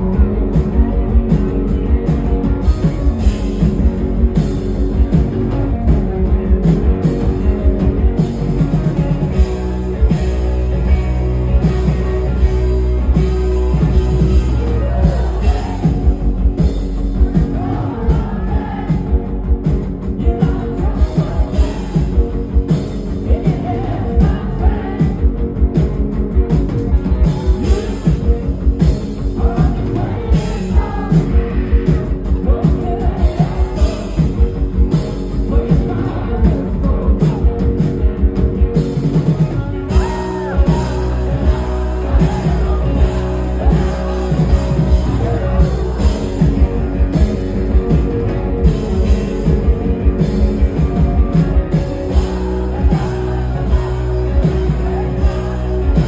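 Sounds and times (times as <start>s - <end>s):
bass: 0.0s - 56.0s
drum beat: 0.0s - 56.0s
rock band playing live: 0.0s - 56.0s
man singing lead vocal: 7.2s - 56.0s.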